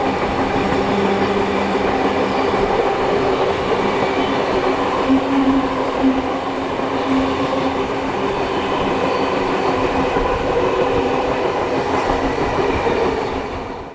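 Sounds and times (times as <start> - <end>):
train wheels rumbling on track: 0.0 - 13.9.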